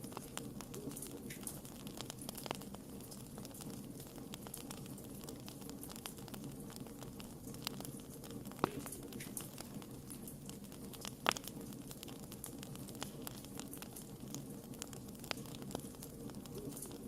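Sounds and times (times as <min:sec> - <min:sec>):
fire pops and snaps: 0:00.0 - 0:17.0
low background of burning: 0:00.0 - 0:17.0.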